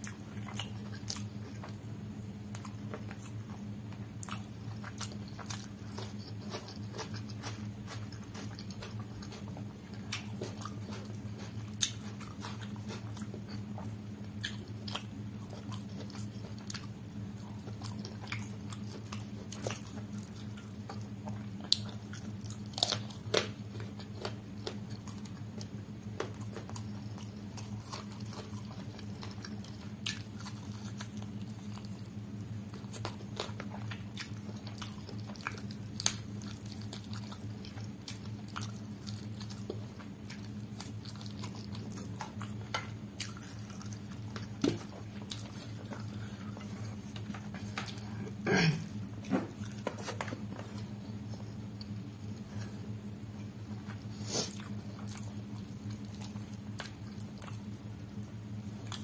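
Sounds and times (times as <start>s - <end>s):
wet chewing and lip smacks: 0.0s - 1.8s, 2.4s - 48.2s, 49.0s - 59.0s
steady low hum: 0.0s - 59.0s.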